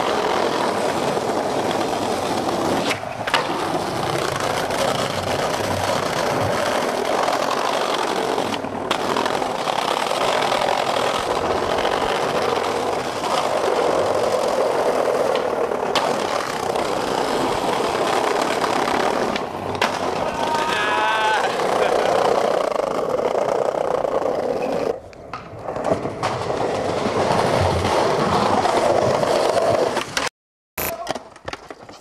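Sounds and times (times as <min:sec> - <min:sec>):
skateboard rolling over brick: 0:00.0 - 0:30.3.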